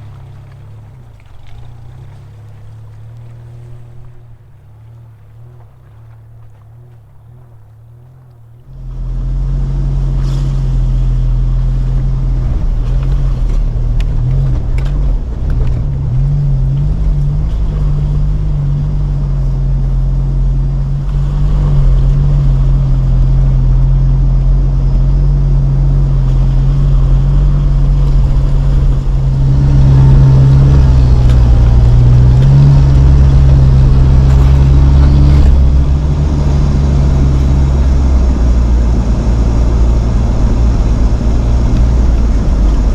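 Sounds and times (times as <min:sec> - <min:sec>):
vehicle engine droning on trail: 0:00.0 - 0:42.9.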